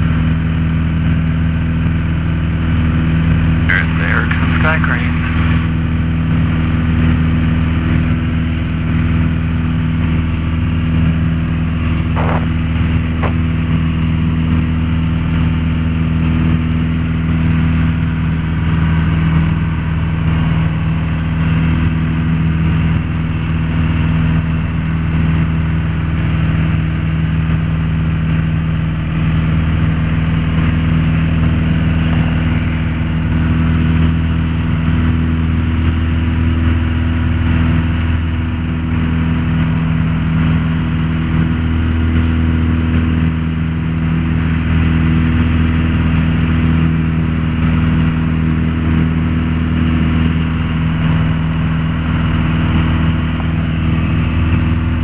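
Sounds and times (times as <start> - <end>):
aircraft engine and propeller running: 0.0 - 55.0.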